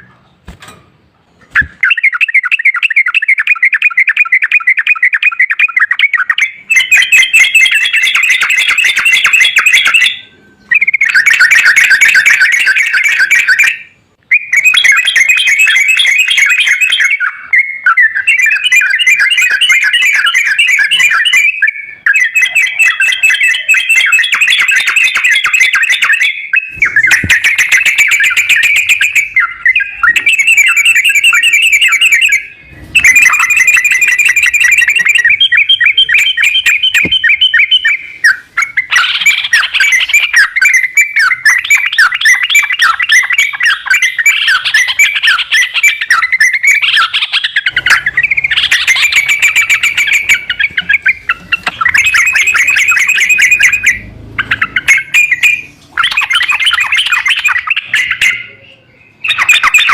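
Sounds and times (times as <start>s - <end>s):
bulbul chattering trills: 1.5s - 59.9s.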